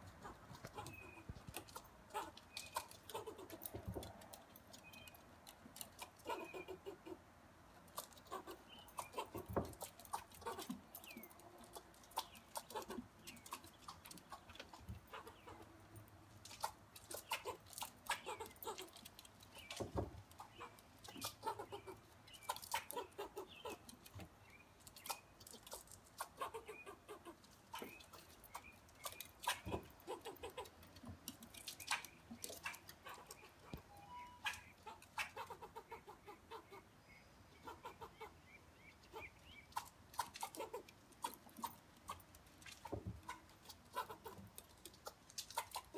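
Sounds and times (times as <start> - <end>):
squirrel clucking alarm calls: 0.0 - 45.9.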